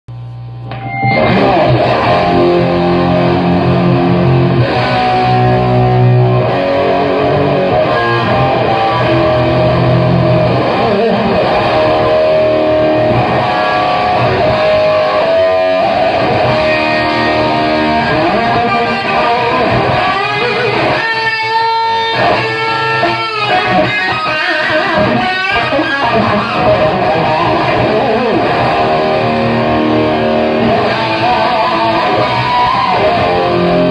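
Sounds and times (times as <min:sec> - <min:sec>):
overdriven electric guitar: 0:00.2 - 0:33.9.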